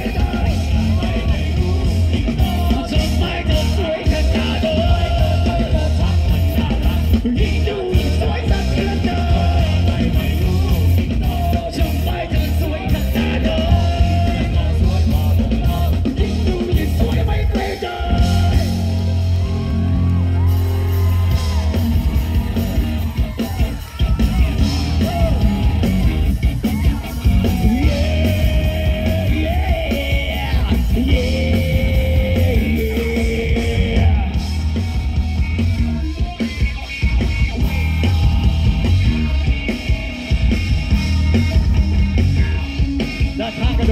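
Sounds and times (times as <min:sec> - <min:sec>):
bass guitar: 0:00.0 - 0:43.9
drums: 0:00.0 - 0:43.9
electric guitar: 0:00.0 - 0:43.9
vocalist singing and shouting: 0:00.0 - 0:43.9.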